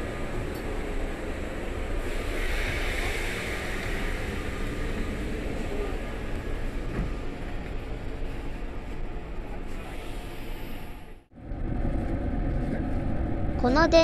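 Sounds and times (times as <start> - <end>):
train car interior noise: 0.0 - 14.0.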